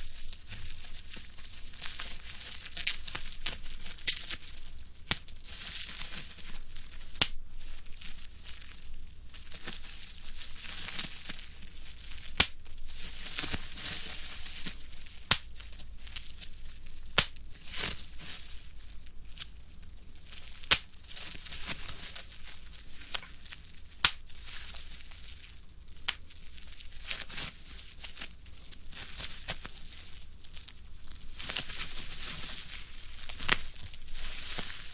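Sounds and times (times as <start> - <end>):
bubble wrap pops: 0.0 - 8.7, 9.4 - 18.6, 20.4 - 34.9
bubble wrap crinkling: 0.0 - 34.9.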